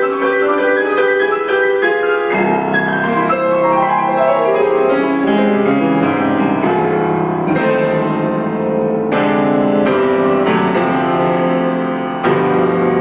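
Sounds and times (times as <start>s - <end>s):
classical piano piece: 0.0s - 13.0s.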